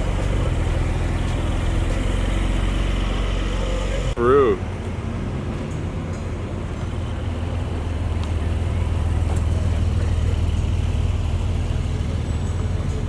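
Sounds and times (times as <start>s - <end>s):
car engine running at low revs: 0.0s - 5.1s, 6.2s - 13.0s.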